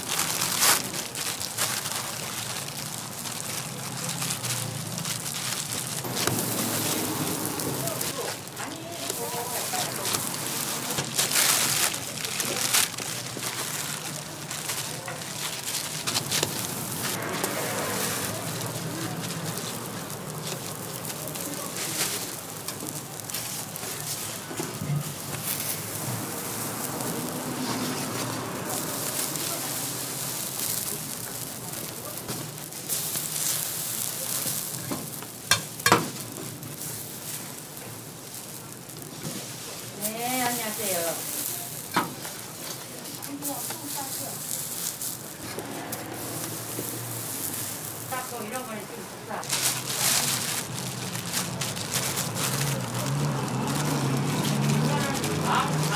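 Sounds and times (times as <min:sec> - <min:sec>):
pancakes sizzling on a griddle: 0:00.0 - 0:55.9.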